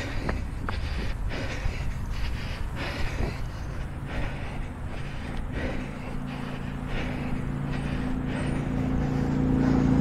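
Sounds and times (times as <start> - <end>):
hard breathing: 0.0 - 10.0
low steady hum: 0.0 - 10.0
wind rumble on microphone: 0.0 - 10.0.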